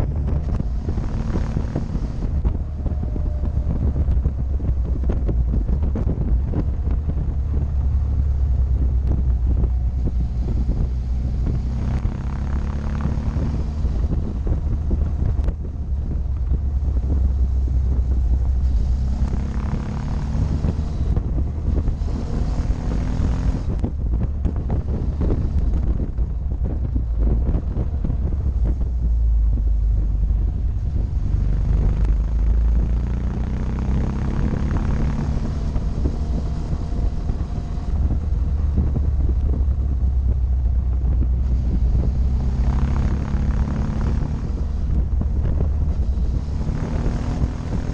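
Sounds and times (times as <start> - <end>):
motorcycle engine revving: 0.0 - 47.9
wind buffeting microphone: 0.0 - 47.9.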